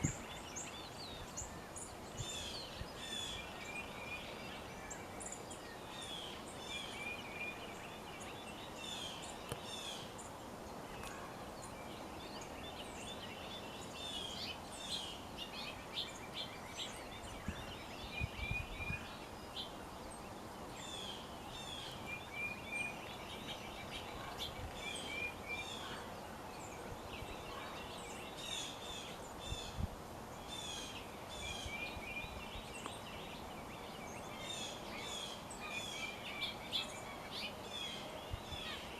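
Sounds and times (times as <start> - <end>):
outdoor ambience hiss: 0.0 - 38.9
songbirds chirping: 0.0 - 38.9.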